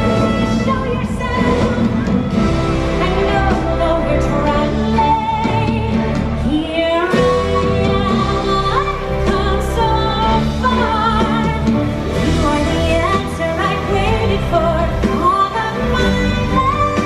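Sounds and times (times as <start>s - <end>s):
instrumental backing music: 0.0s - 17.0s.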